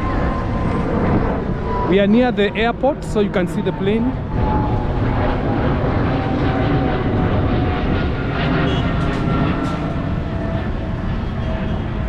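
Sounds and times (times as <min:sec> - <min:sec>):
airplane engines droning: 0:00.0 - 0:12.0
road traffic: 0:00.0 - 0:12.0.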